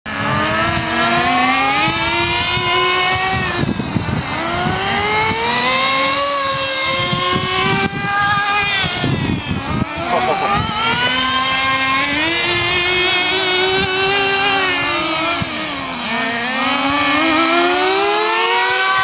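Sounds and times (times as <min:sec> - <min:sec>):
rc car engines revving: 0:00.1 - 0:19.0.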